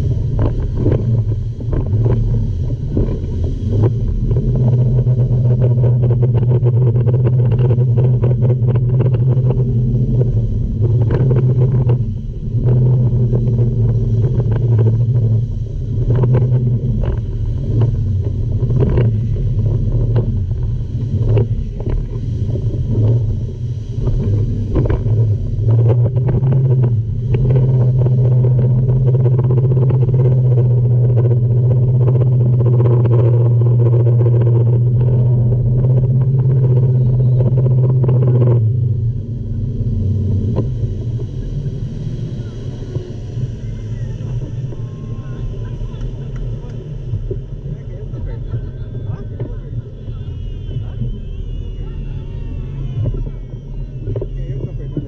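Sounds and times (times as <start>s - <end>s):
speedboat engine droning: 0.0s - 55.0s.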